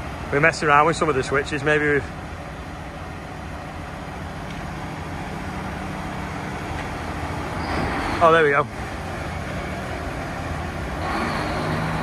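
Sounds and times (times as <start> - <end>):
tractor diesel engines rumbling: 0.0 - 12.0.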